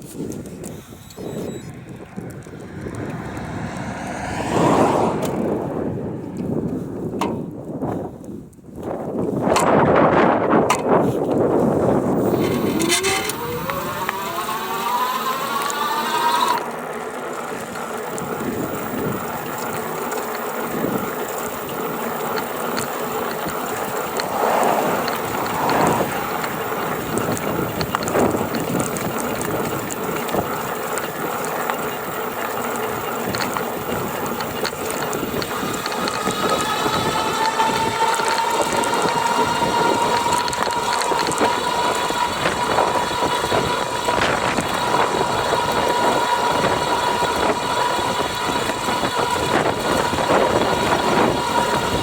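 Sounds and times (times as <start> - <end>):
electric motor whining: 0.0 - 7.0, 12.0 - 16.7, 17.4 - 31.0, 32.2 - 52.0
motor rattling: 0.0 - 7.2, 11.6 - 52.0.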